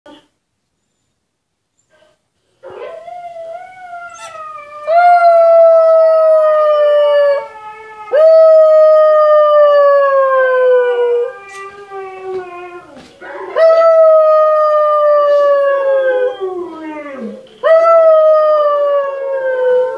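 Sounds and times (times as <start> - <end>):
dog howls from tv: 2.6 - 19.9
puppy howling: 2.6 - 19.9.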